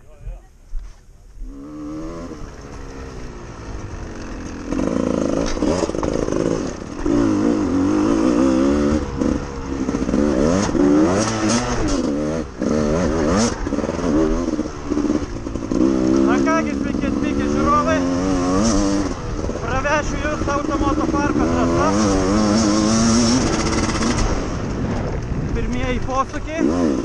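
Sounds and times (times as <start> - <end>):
dirt bike engine revving: 1.4 - 27.0.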